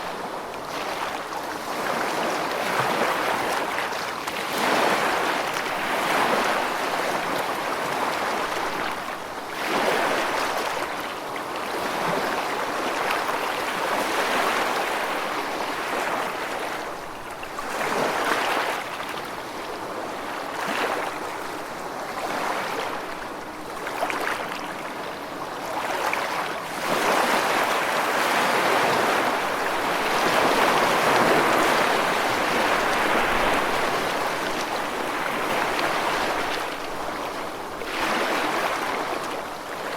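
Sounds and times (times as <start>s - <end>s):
gentle waves washing onto beach: 0.0s - 39.9s.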